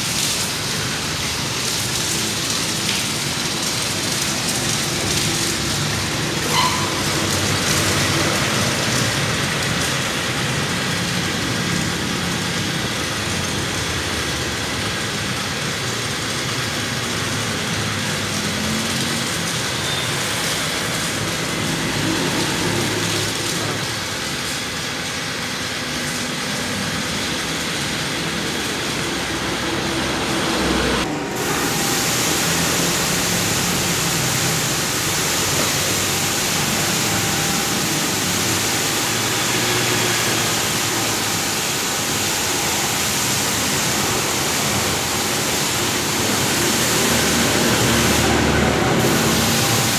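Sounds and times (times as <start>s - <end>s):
car wash water spraying: 0.0s - 49.9s
machinery running: 0.0s - 49.9s.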